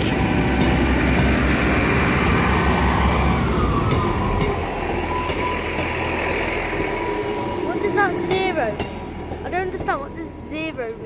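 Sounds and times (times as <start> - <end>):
diesel train deep rumble: 0.0 - 11.0.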